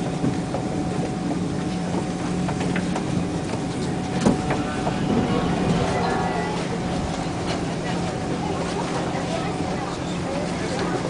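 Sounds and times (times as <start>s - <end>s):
metro car hum: 0.0s - 11.0s
passengers shuffling: 0.1s - 11.0s.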